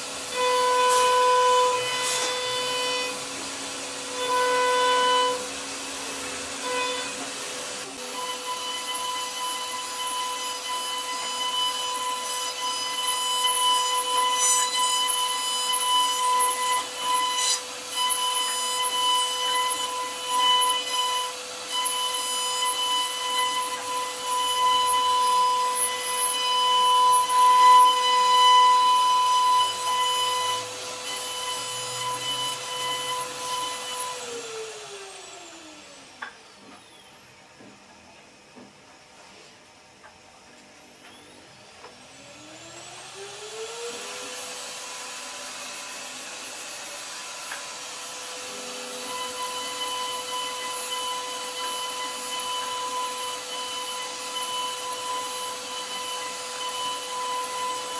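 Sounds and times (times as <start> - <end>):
router spindle whine: 0.0 - 38.0, 40.0 - 57.9.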